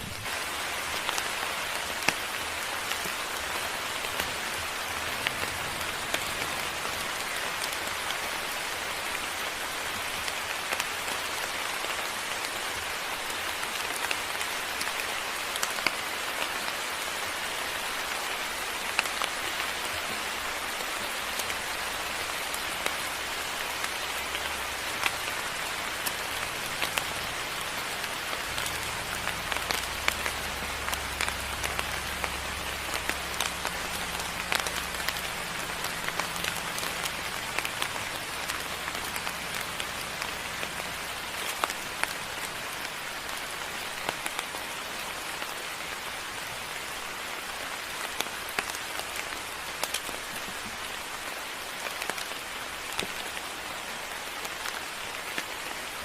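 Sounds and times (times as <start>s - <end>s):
rain falling: 0.0s - 56.0s
raindrops ticking on a surface: 0.0s - 56.0s.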